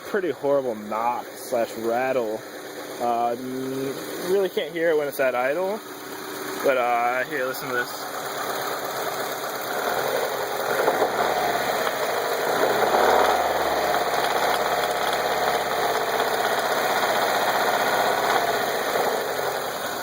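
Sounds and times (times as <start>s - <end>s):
car engine revving: 0.0s - 20.0s
engine knock and rattle: 0.0s - 20.0s.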